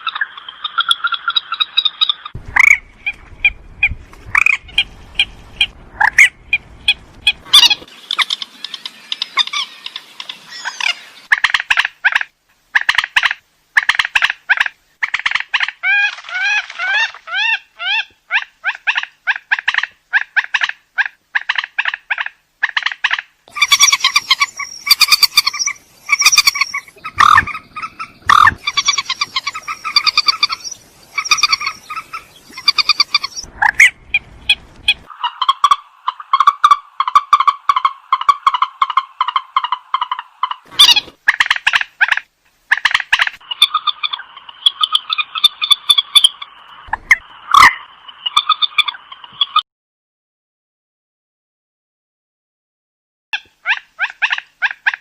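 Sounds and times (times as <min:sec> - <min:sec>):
bird harsh croaking calls: 0:04.3 - 0:49.6.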